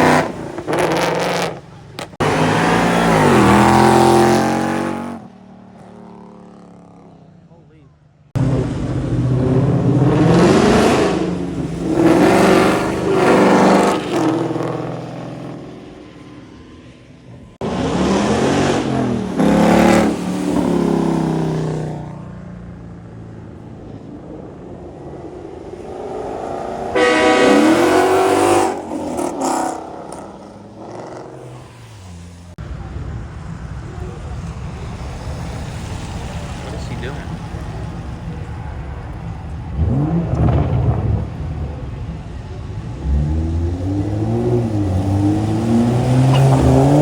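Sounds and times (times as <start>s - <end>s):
cars accelerating hard: 0.0s - 7.2s, 8.4s - 16.6s, 17.6s - 22.2s, 23.6s - 32.6s, 34.1s - 47.0s
quiet engine and traffic noise: 0.0s - 47.0s.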